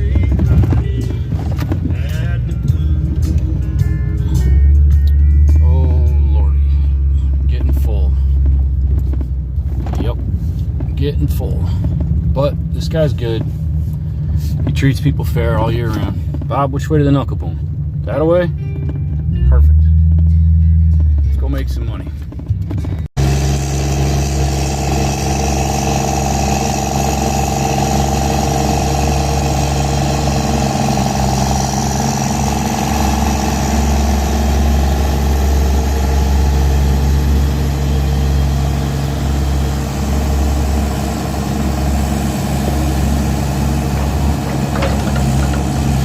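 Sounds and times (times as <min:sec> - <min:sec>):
truck engine humming: 0:00.0 - 0:46.0.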